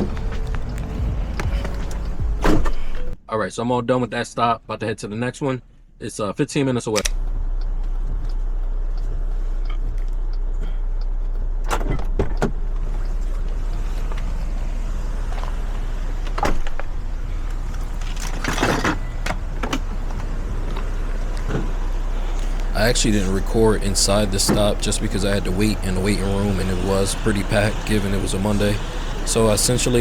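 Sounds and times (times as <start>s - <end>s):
car engine and road noise: 0.0s - 3.2s, 3.8s - 30.0s.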